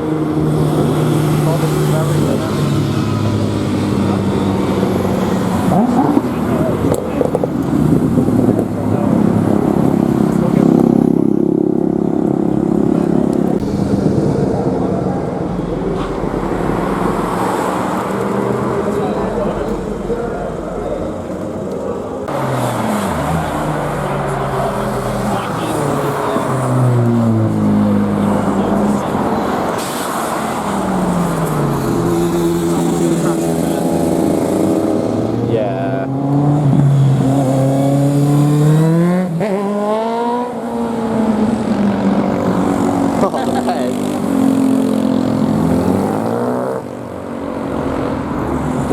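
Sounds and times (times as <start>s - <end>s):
traffic noise: 0.0s - 48.9s
vehicle engines running: 0.0s - 48.9s.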